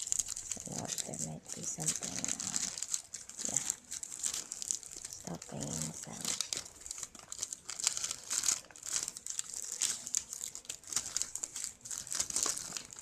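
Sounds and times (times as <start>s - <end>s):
packing stuffing crinkling: 0.0s - 13.0s.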